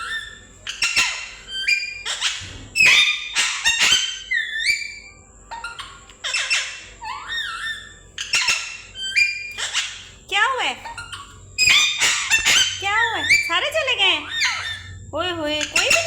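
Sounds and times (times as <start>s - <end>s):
parrot whistling: 0.0s - 10.2s, 10.8s - 16.0s
parrot squawks: 0.0s - 16.0s.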